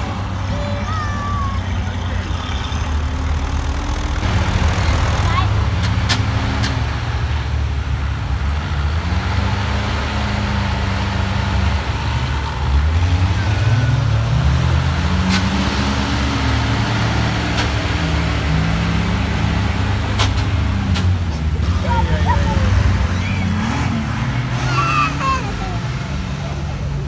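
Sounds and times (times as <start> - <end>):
off-road engines revving under load: 0.0 - 27.0.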